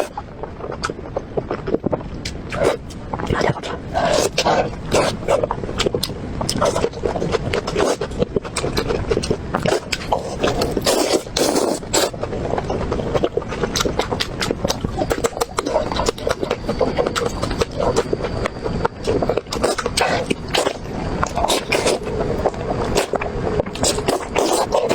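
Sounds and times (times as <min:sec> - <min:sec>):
wet chewing and lip-smacking: 0:00.0 - 0:24.9.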